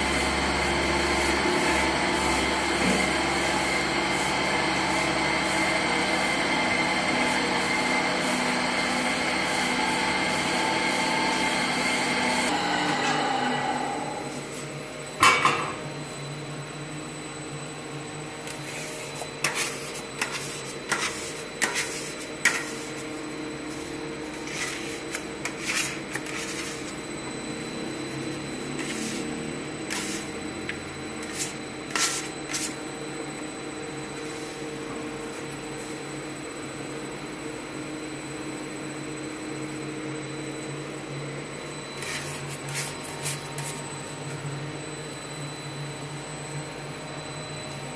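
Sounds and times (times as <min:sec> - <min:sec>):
dough mixer running: 0:00.0 - 0:15.0, 0:15.8 - 0:47.9.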